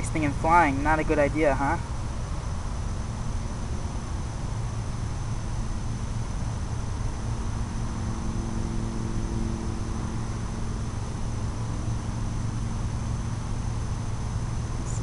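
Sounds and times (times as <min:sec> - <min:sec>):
crickets chirping: 0:00.0 - 0:15.0
faint low hum: 0:00.0 - 0:15.0.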